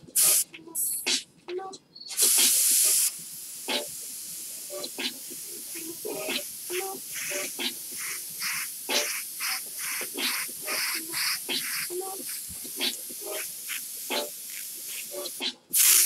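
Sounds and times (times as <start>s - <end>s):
rhythmic airbrush bursts: 0.0s - 1.2s, 2.2s - 16.0s
airbrush hissing: 0.2s - 1.0s, 2.2s - 16.0s.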